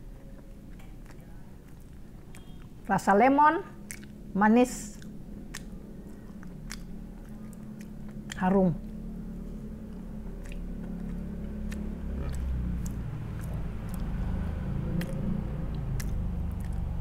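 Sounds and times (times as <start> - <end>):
person chewing crumbly food: 0.0 - 17.0.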